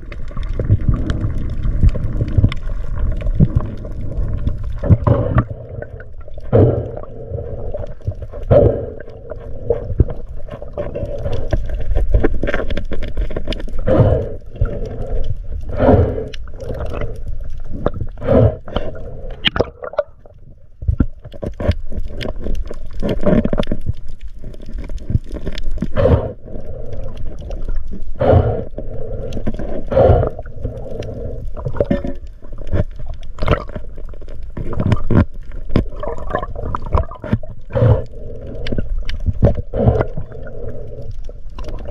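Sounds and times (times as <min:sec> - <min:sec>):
low underwater rumble: 0:00.0 - 0:41.9
muffled swishing water: 0:00.0 - 0:41.9.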